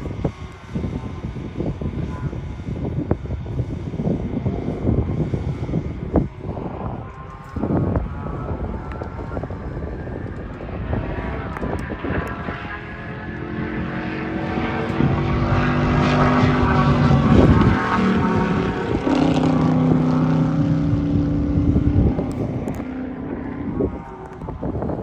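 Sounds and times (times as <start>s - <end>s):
race car engine passing: 4.3s - 25.0s.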